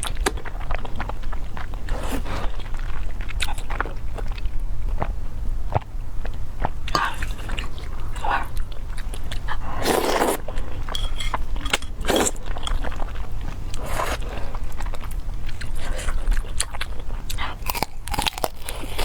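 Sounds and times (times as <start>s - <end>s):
person chewing noodles: 0.0s - 19.0s.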